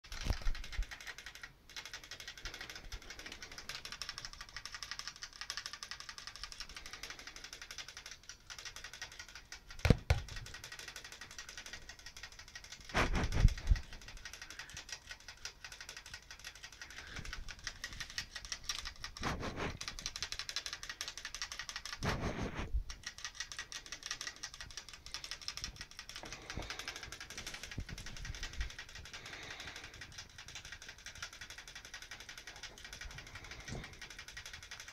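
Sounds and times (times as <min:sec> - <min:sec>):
rats licking metal sipper tube: 0:00.1 - 0:34.9.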